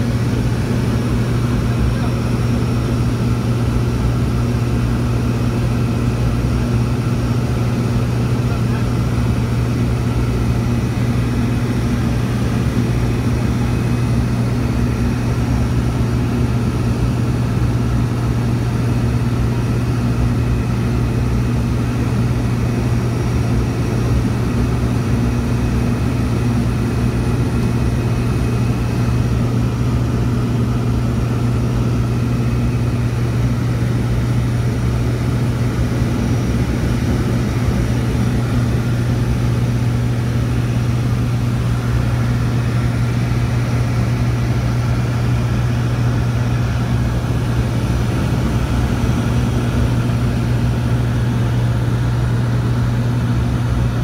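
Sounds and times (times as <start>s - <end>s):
airplane engine droning in cabin: 0.0s - 54.0s.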